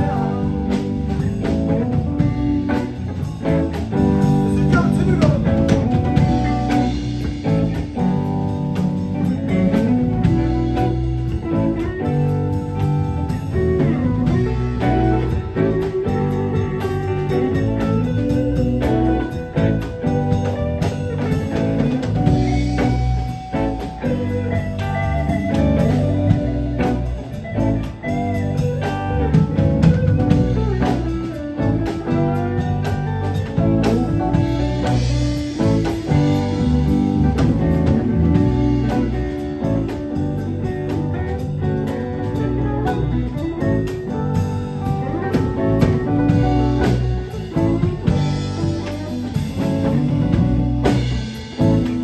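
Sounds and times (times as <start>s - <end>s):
drum kit: 0.0s - 52.0s
electric bass: 0.0s - 52.0s
electric guitars playing blues: 0.0s - 52.0s.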